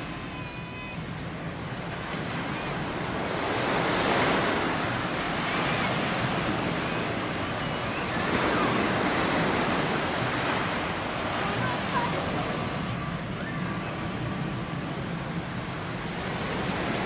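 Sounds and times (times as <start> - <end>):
surf washing against sea wall: 0.0 - 17.0
wind buffeting microphone: 1.0 - 17.0.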